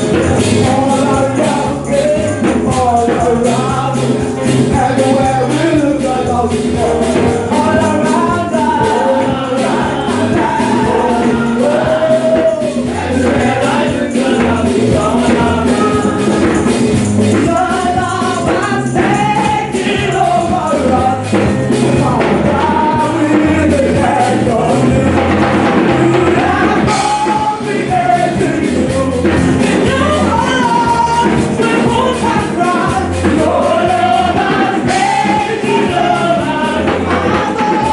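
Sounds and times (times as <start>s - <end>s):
gospel choir singing with band: 0.0s - 37.9s.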